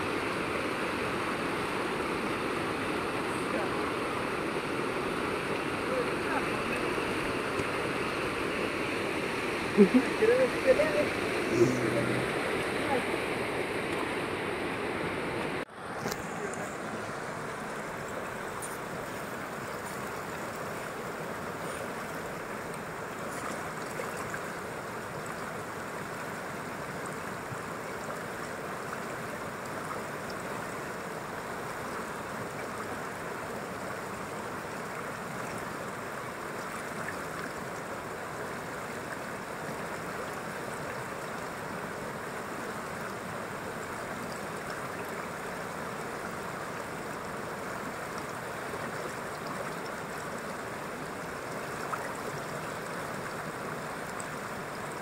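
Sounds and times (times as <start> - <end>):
river rushing through rapids: 0.0 - 55.0.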